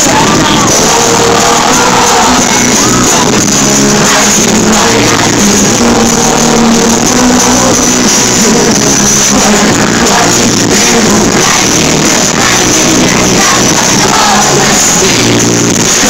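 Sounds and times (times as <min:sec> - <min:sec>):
crowd voices: 0:00.0 - 0:16.0
live pop music: 0:00.0 - 0:16.0.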